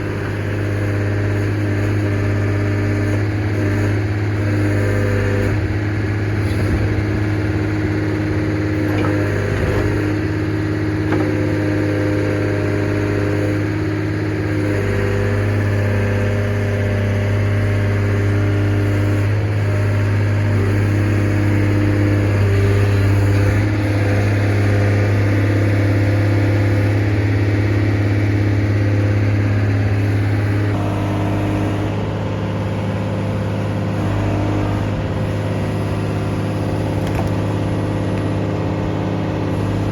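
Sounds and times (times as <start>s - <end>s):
excavator diesel engine running: 0.0s - 39.9s
hydraulic whine: 0.0s - 39.9s.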